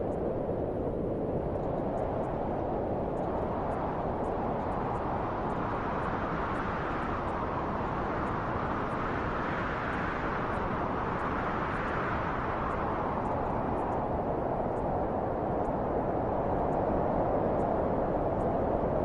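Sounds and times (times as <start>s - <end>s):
rushing wind: 0.0s - 19.0s.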